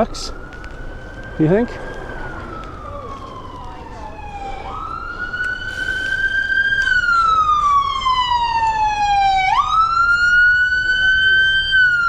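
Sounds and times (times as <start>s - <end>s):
emergency vehicle siren wailing: 0.0s - 12.0s
low road noise: 0.0s - 12.0s.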